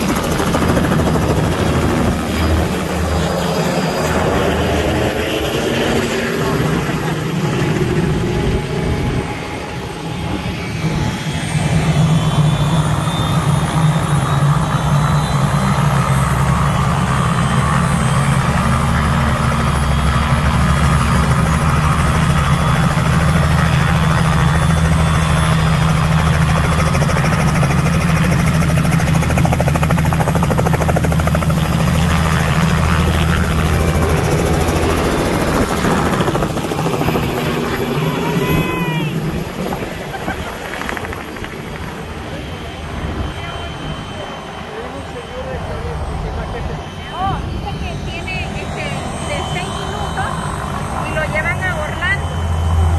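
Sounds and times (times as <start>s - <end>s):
helicopter rotor and engine: 0.0s - 52.9s.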